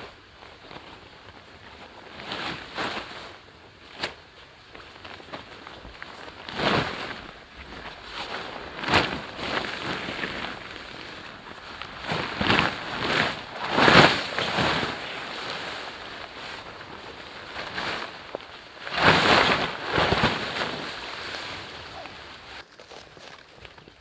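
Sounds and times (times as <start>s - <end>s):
tent fabric swishing and rustling: 0.0s - 23.8s.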